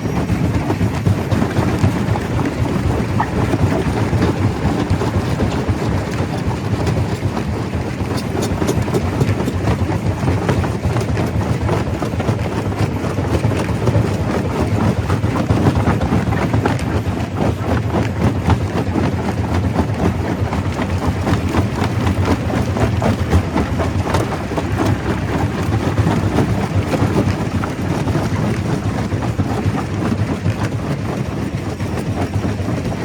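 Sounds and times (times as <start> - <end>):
stone crusher rumbling: 0.0 - 33.0.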